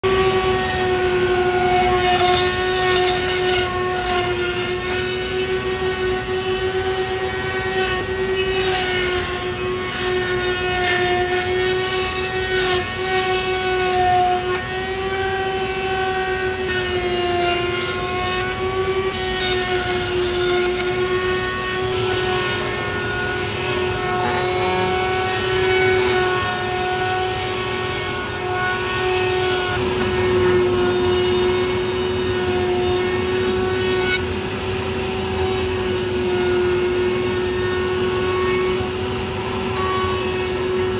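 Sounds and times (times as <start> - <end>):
router bit rasping wood: 0.0 - 40.9
wood router whining: 0.0 - 40.9.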